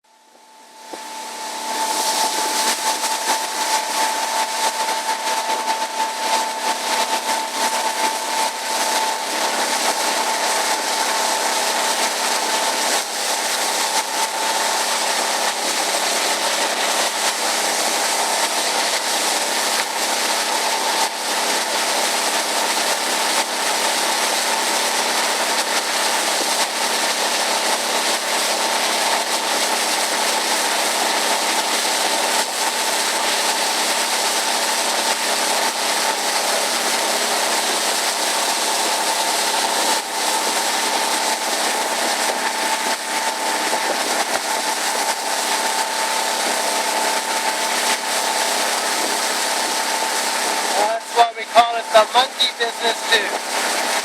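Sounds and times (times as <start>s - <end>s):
steady machine whine: 0.0s - 54.0s.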